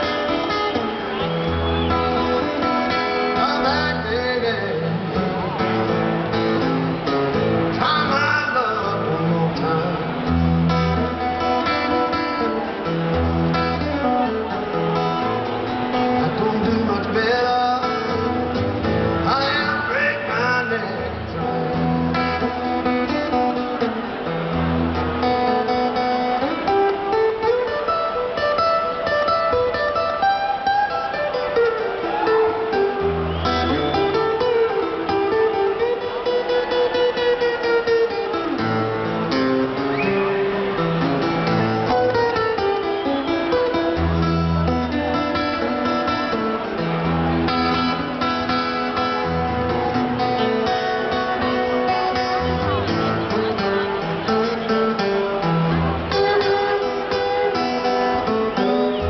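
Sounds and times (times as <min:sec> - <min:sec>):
acoustic guitar playing blues: 0:00.0 - 0:59.0.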